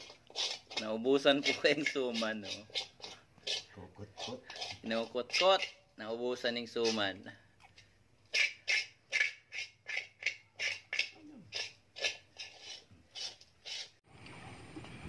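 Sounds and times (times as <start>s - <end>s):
knife scraping metal wok: 0.0s - 7.2s, 8.3s - 14.0s.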